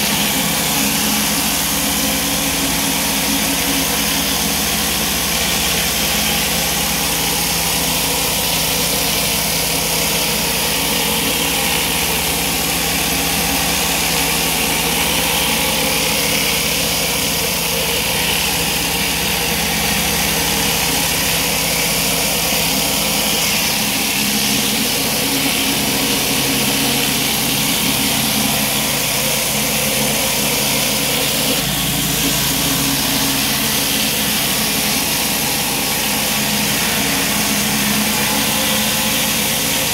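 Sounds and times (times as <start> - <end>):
high-pressure water hissing: 0.0 - 39.9
pressure washer engine running: 0.0 - 39.9.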